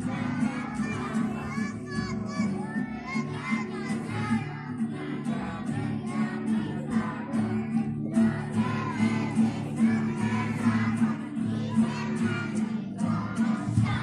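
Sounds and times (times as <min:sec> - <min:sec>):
children singing together: 0:00.0 - 0:14.0
musical accompaniment: 0:00.0 - 0:14.0.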